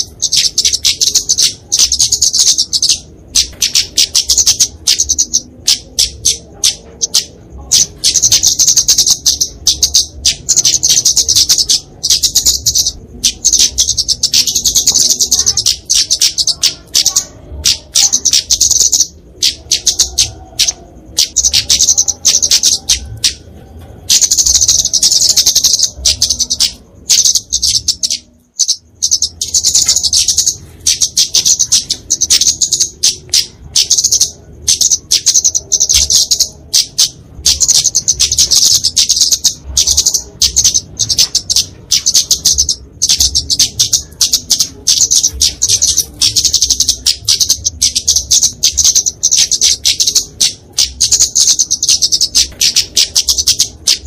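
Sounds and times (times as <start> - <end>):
bird high-pitched chips and trills: 0.0 - 54.0.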